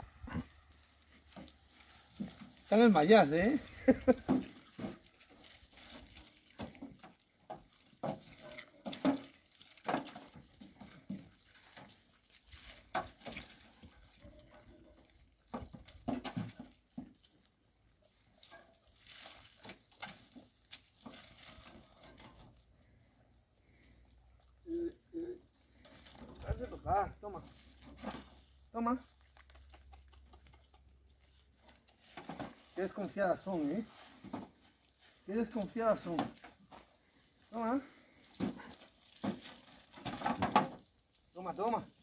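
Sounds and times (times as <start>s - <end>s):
goats crunching feed: 0.0s - 2.7s, 3.3s - 24.5s, 27.5s - 32.8s, 33.9s - 42.0s.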